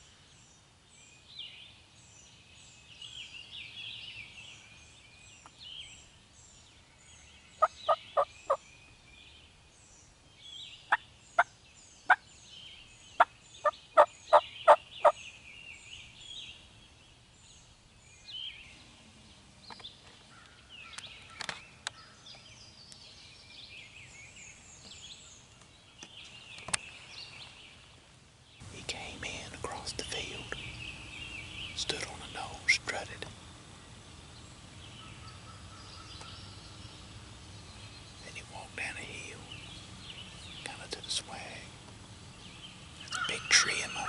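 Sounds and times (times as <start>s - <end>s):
songbirds singing: 0.0s - 44.0s.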